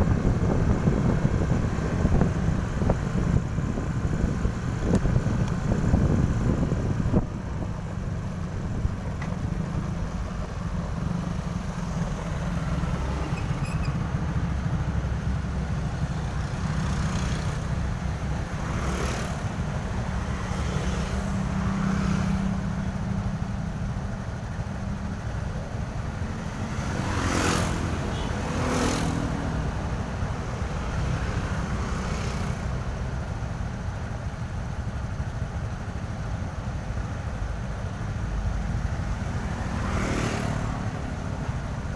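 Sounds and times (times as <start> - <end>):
road traffic noise: 0.0 - 41.9
vehicles passing close by: 0.0 - 41.9.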